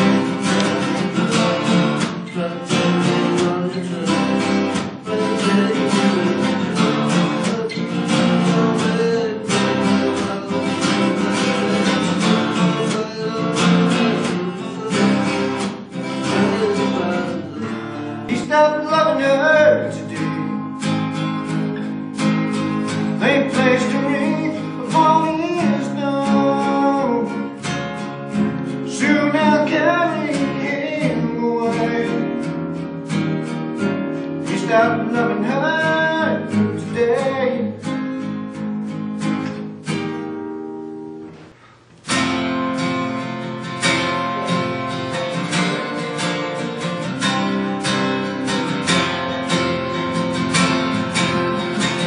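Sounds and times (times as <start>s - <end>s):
acoustic guitars playing: 0.0s - 52.0s
guitar melody with bent notes: 0.0s - 52.0s.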